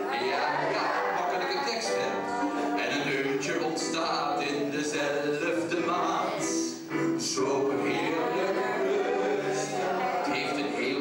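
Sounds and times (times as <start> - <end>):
man singing into a microphone: 0.0 - 11.0
piano accompaniment: 0.0 - 11.0.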